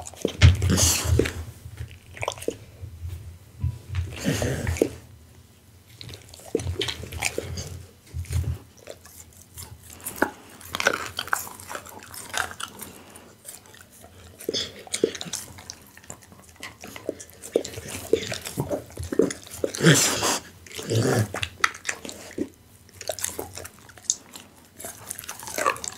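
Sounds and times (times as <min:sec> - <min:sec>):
dog chewing raw meat: 0:00.0 - 0:02.9, 0:03.6 - 0:05.2, 0:05.8 - 0:25.9.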